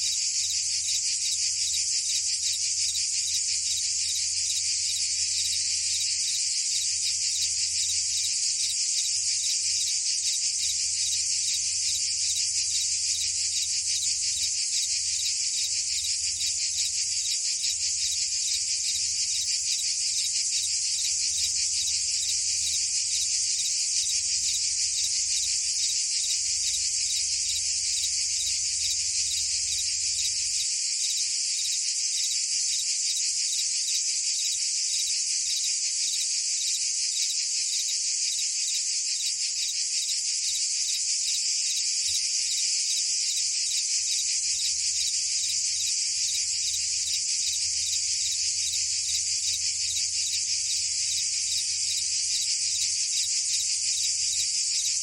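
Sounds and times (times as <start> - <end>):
cicadas and crickets buzzing: 0.0 - 55.0.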